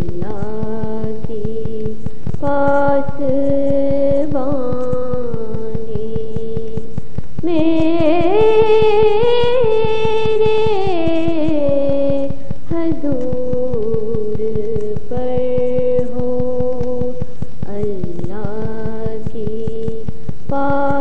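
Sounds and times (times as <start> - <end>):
fast pulsing beat: 0.0 - 21.0
person singing long notes: 0.0 - 21.0.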